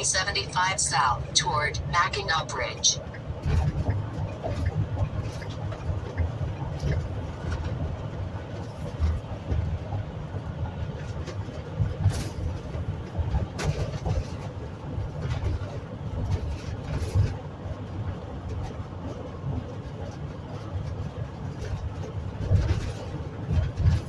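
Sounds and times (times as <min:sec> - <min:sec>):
road and engine rumble: 0:00.0 - 0:24.0.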